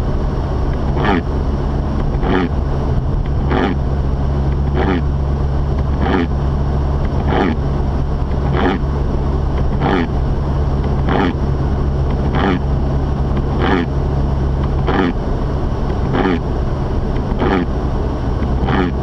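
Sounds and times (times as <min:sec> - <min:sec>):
car engine and tyres droning: 0:00.0 - 0:19.0.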